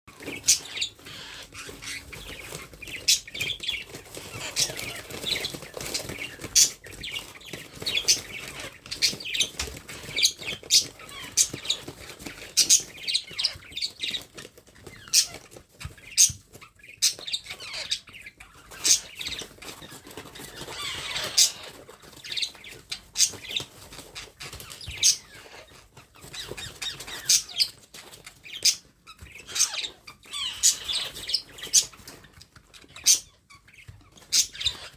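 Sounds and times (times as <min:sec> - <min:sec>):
parrot chicks squawking: 0:00.1 - 0:34.9.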